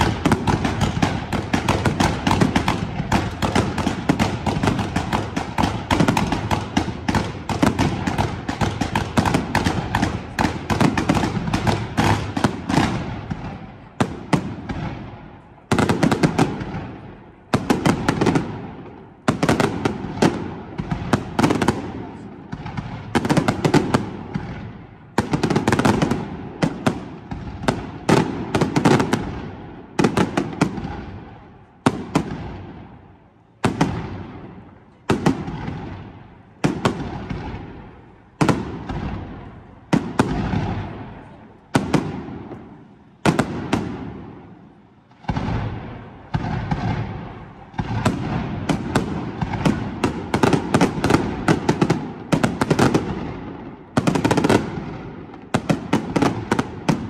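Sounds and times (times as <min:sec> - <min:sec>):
fireworks bangs with rumble: 0:00.0 - 0:33.0, 0:33.6 - 0:57.0
fireworks crackling: 0:00.0 - 0:57.0.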